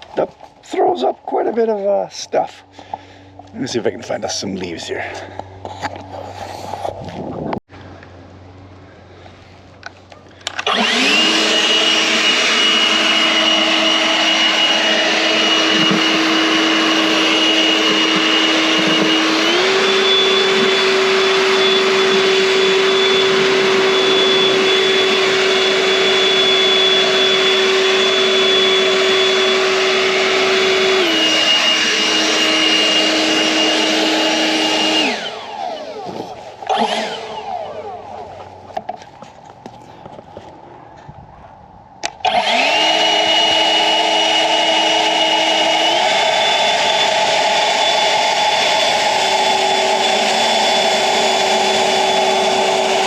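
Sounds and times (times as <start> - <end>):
leaf blower whine and rushing air: 0.0 - 40.1, 42.0 - 53.0.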